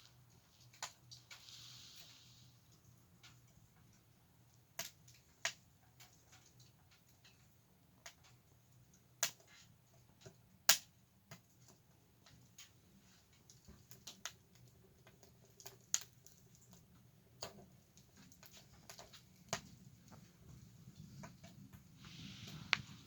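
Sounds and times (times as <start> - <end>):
firewood crackling in a stove: 0.0 - 23.0.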